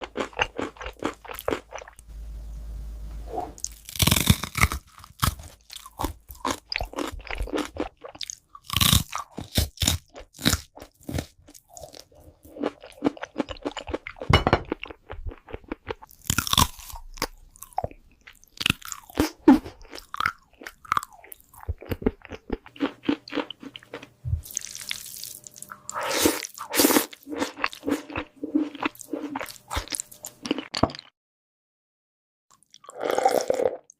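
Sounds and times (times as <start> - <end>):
crunchy food chewing: 0.0 - 2.0, 3.6 - 31.1.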